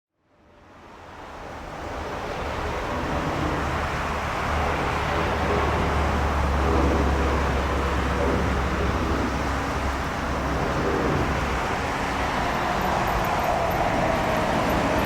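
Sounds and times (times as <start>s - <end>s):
jet engines rumbling: 1.9s - 15.0s.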